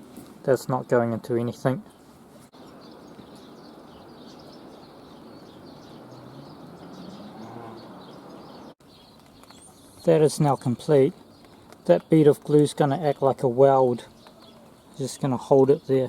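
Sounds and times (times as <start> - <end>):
faint birds chirping: 0.5 - 16.0.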